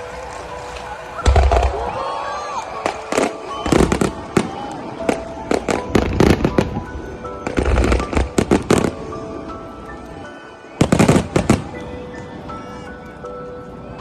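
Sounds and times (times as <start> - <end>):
fireworks bangs and crackles: 0.0 - 10.0, 10.7 - 12.5
music with held notes: 0.0 - 14.0.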